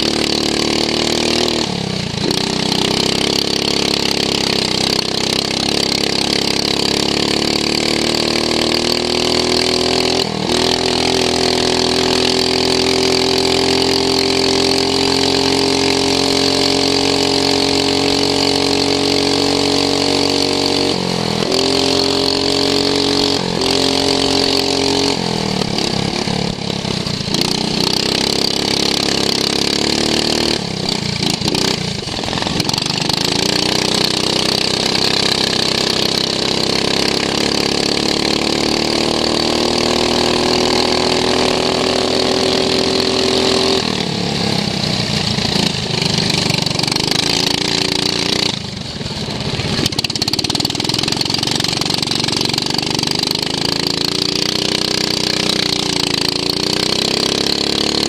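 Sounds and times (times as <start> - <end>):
racing lawn mower engine: 0.0 - 58.0.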